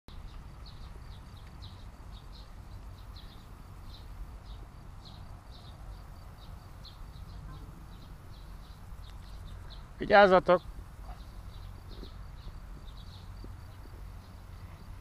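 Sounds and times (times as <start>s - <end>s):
wind rumbling on microphone: 0.1s - 15.0s.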